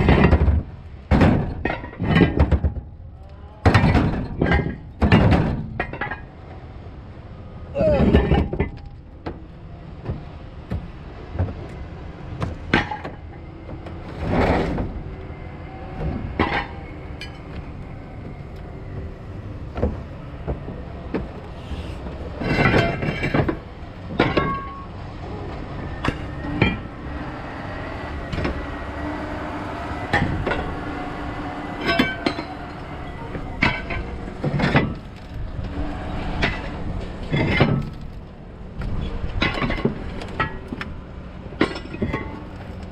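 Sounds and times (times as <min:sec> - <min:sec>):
heavy machinery running: 0:06.3 - 0:42.9.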